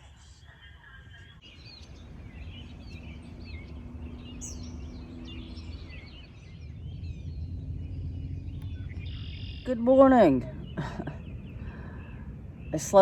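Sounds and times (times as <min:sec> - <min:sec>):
low steady hum: 0:00.0 - 0:13.0
small birds chirping and singing: 0:00.7 - 0:13.0
low rumble: 0:01.4 - 0:13.0.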